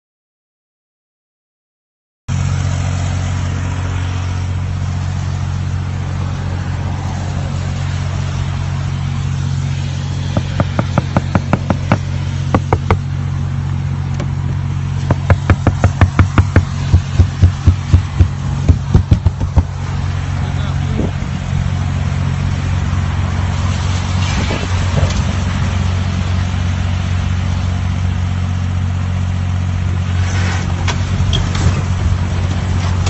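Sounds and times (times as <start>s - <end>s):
car driving drone: 2.3s - 33.0s.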